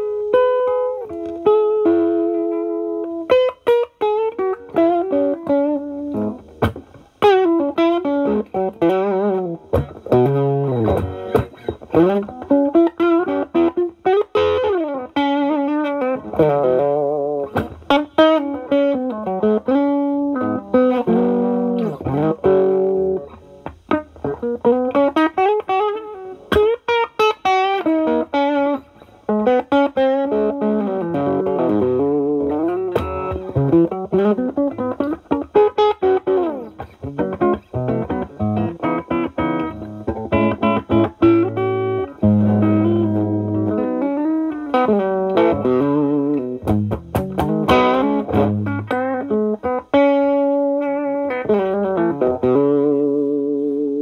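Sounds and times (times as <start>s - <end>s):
overdriven electric guitar: 0.0s - 54.0s.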